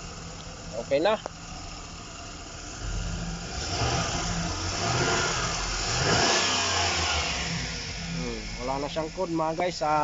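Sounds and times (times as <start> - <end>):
van engine revving: 0.0 - 10.0.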